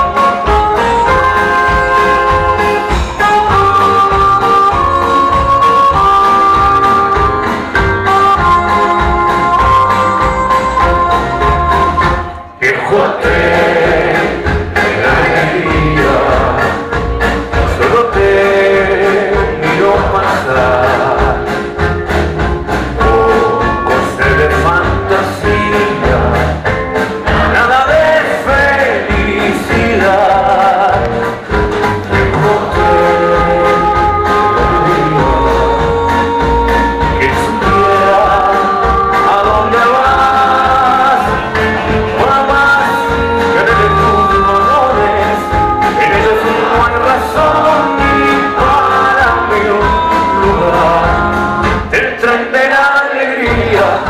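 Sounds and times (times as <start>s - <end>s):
melody with vibrato: 0.0s - 51.9s
double bass: 0.0s - 52.0s, 53.5s - 54.0s
acoustic guitar: 0.0s - 54.0s
drums: 0.0s - 54.0s.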